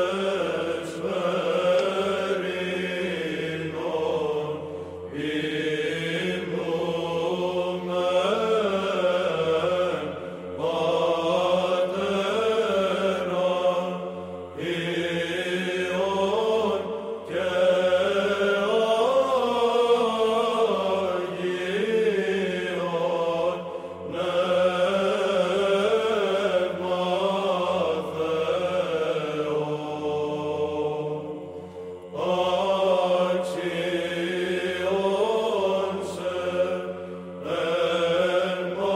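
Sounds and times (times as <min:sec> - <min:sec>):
sacred chanting: 0:00.0 - 0:38.9.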